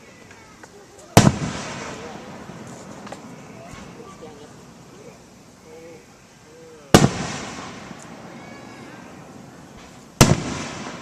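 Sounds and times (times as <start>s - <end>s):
firework bursts with echo: 1.1s - 6.1s, 6.9s - 11.0s.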